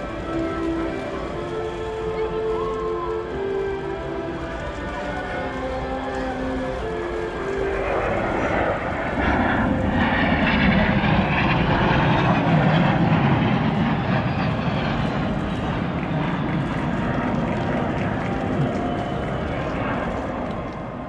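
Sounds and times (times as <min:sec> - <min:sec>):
jets flying overhead: 0:00.0 - 0:21.0.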